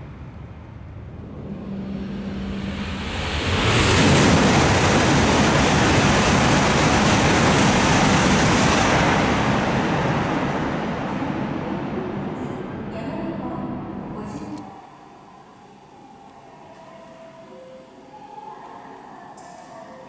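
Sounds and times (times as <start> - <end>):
high-speed train passing: 0.0 - 19.3.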